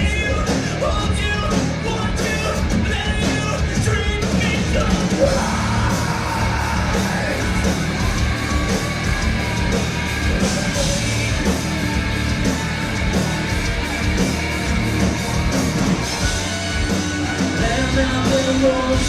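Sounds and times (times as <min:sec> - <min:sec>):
live rock band playing: 0:00.0 - 0:19.0
steady drum beat: 0:00.0 - 0:19.0.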